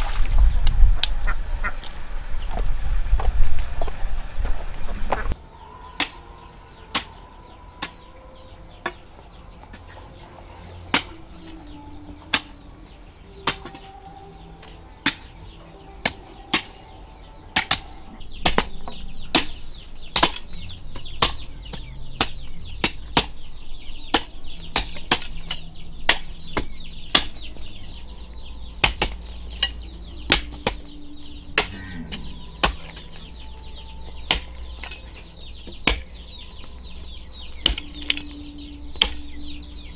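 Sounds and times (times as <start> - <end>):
poultry clucking: 4.9 - 39.9.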